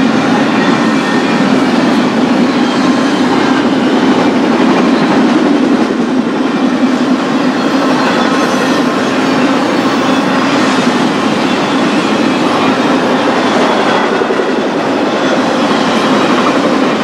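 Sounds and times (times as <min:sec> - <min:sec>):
freight train passing on rails: 0:00.0 - 0:17.0.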